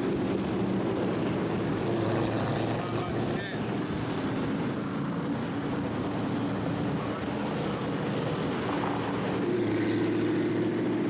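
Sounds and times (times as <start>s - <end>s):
car engine cruising: 0.0s - 11.0s
road noise: 0.0s - 11.0s.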